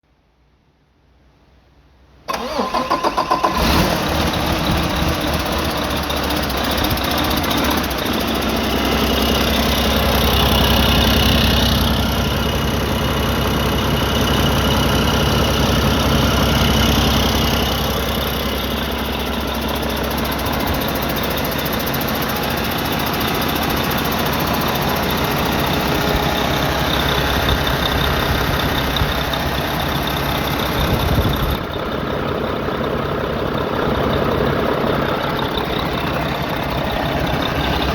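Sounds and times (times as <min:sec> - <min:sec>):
diesel engine idling: 0:02.3 - 0:37.9.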